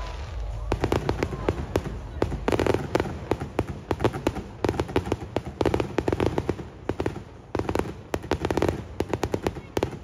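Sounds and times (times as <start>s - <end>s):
fireworks crackling pops: 0.0s - 10.0s.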